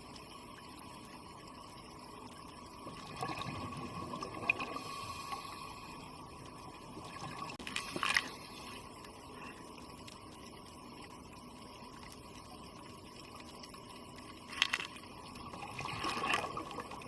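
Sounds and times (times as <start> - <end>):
faint steady hum: 0.0 - 17.0
underwater bubbling: 0.0 - 17.0.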